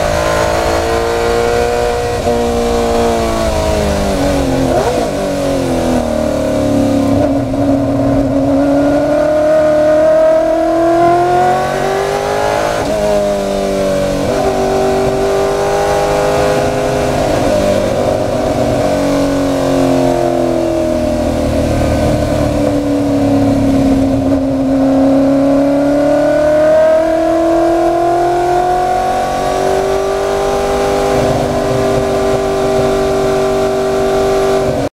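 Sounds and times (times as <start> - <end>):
race car engine: 0.0 - 34.9.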